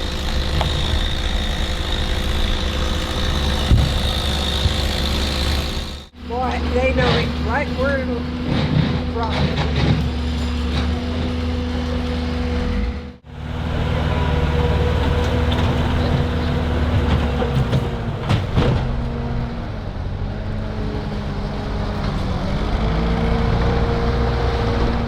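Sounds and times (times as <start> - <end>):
large engine running: 0.0 - 25.0.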